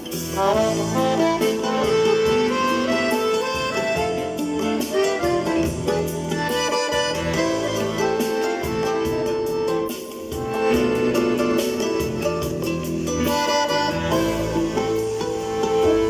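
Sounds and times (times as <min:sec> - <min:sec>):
accordion melody with chords: 0:00.0 - 0:16.0
steady percussion beat: 0:00.0 - 0:16.0
synthesized accompaniment: 0:00.0 - 0:16.0.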